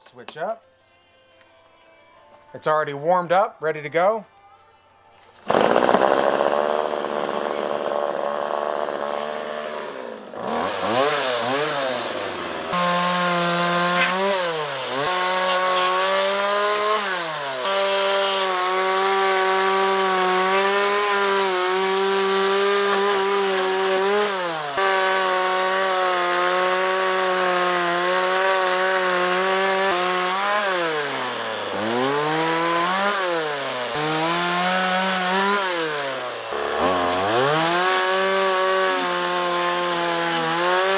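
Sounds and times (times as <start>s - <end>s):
chainsaw revving: 5.4s - 40.9s.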